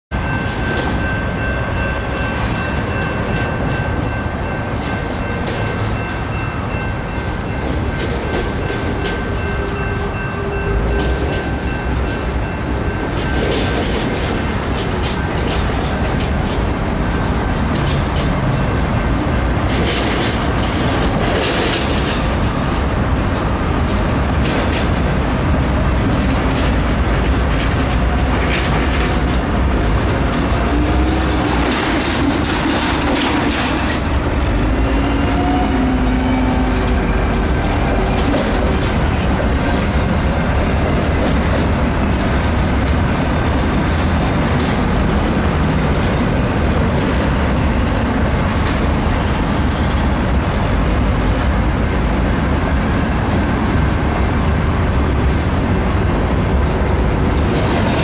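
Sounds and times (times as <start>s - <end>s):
train wheels rumbling on rail: 0.1s - 58.0s
wheels clanking over rail joints: 0.1s - 58.0s.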